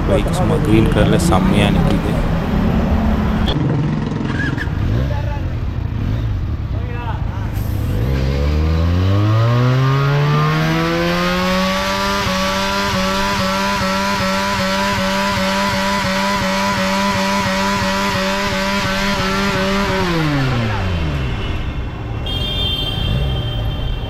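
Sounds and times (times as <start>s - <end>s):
motorcycle engine revving: 0.0s - 21.7s.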